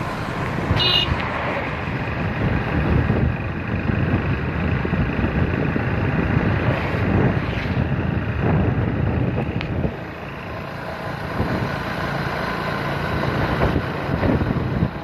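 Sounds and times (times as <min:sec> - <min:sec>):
wind buffeting microphone: 0:00.0 - 0:11.9, 0:13.1 - 0:15.0
motorcycle engine running: 0:02.0 - 0:15.0.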